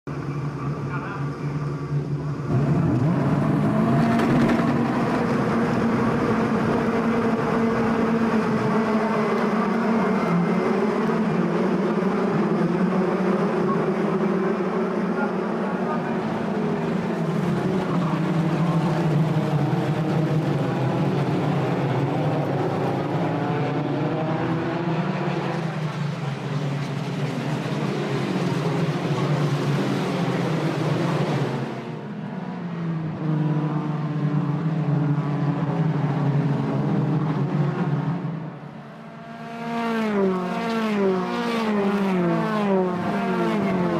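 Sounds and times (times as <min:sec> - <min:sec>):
racing car engines at high revs: 0:00.1 - 0:43.9.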